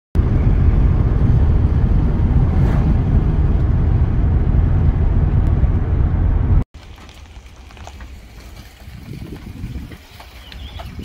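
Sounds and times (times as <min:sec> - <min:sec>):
road and wind rumble in vehicle: 0:00.2 - 0:11.0.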